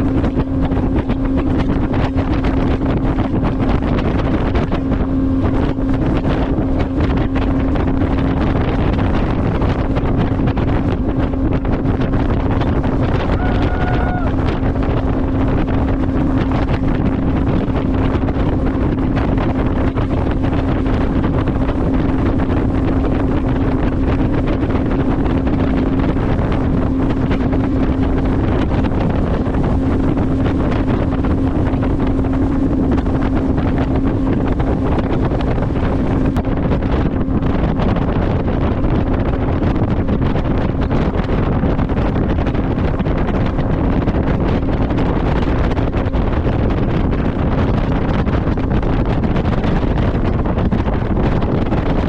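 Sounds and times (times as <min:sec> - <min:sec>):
motorboat engine running: 0:00.0 - 0:52.0
wind rushing over microphone: 0:00.0 - 0:52.0.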